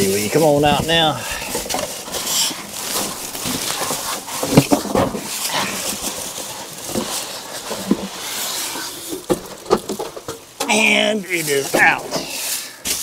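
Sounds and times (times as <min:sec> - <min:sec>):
cardboard and styrofoam scraping: 0:00.0 - 0:13.0.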